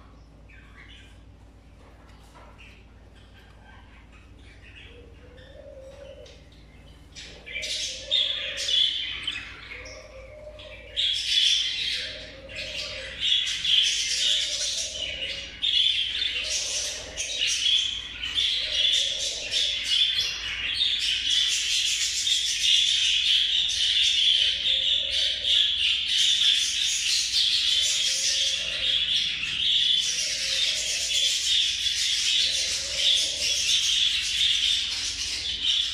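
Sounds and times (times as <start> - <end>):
budgerigars chattering and warbling: 0.0 - 35.9.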